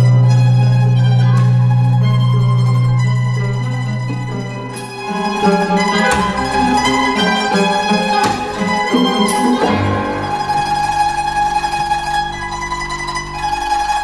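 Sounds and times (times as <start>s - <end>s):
bowed strings: 0.0s - 14.0s
plucked qanun notes: 0.0s - 14.0s.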